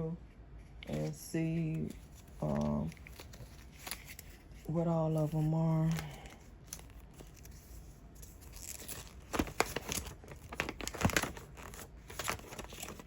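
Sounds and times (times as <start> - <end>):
packaging crinkling and tearing: 0.8 - 13.0.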